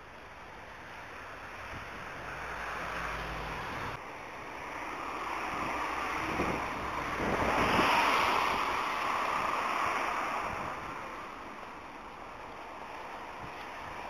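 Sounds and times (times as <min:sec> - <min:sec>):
tyre hiss on wet road: 0:00.0 - 0:14.0.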